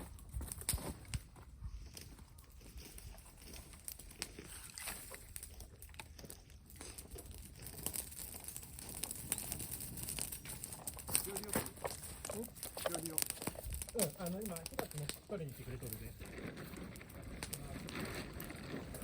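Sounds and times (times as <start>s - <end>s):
dry wood crackling and snapping: 0.0s - 19.0s.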